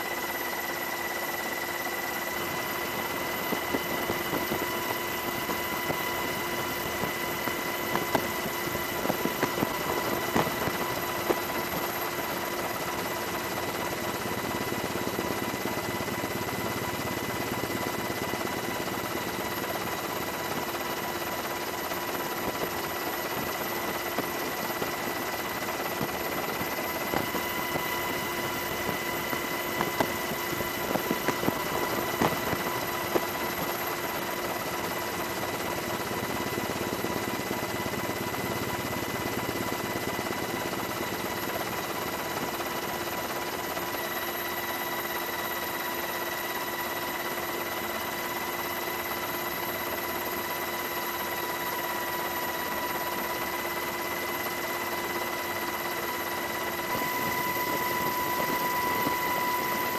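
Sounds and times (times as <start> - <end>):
helicopter drone with whine: 0.0 - 59.9.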